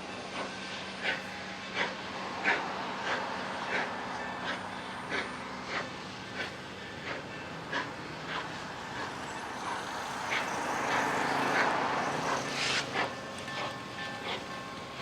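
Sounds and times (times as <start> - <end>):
passenger train rolling by: 0.0 - 15.0.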